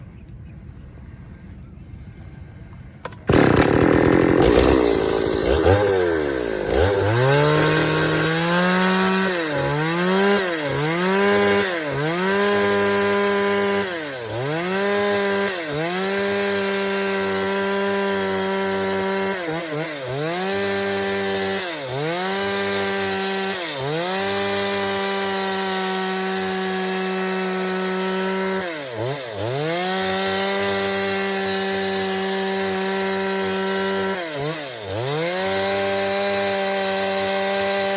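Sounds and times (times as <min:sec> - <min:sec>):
chainsaw running at high speed: 0:03.0 - 0:37.9.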